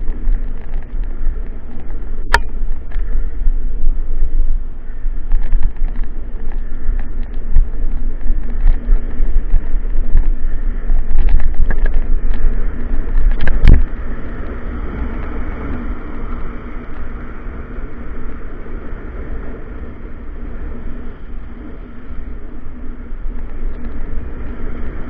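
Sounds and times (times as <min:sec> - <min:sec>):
bicycle rattling over paving: 0:00.0 - 0:25.0
wind buffeting microphone: 0:00.0 - 0:25.0.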